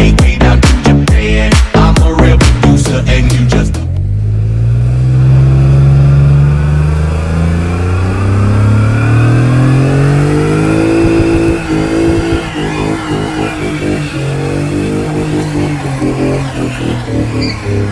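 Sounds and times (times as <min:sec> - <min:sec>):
car engine accelerating hard: 0:01.8 - 0:17.9.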